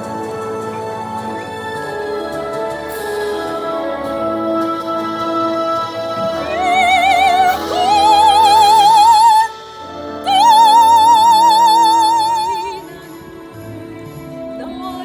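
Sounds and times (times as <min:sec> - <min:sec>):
instrumental accompaniment: 0:00.0 - 0:15.0
soprano singing: 0:00.0 - 0:15.0.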